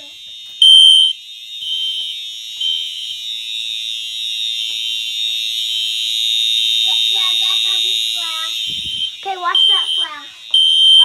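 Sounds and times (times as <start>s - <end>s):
fire alarm sounder beeping: 0.0s - 11.0s
steady alarm tone: 0.0s - 11.0s.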